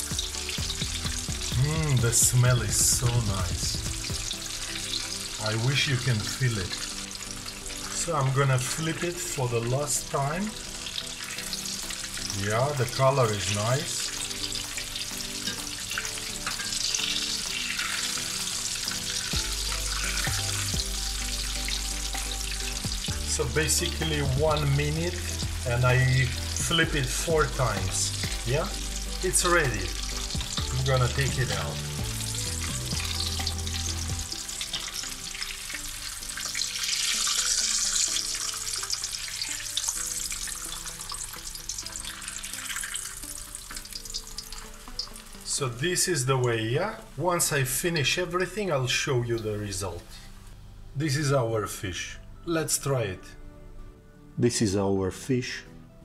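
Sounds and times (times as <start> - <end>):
fish fillets sizzling in oil: 0.0 - 48.4.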